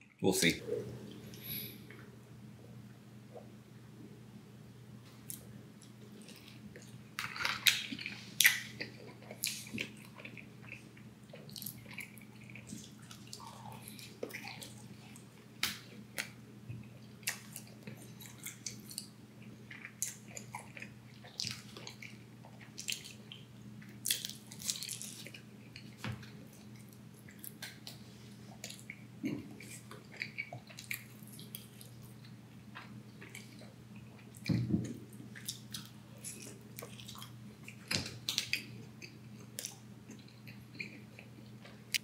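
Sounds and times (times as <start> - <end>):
steady low hum: 0.0 - 42.0
person chewing and biting food: 5.2 - 34.5, 35.2 - 42.0.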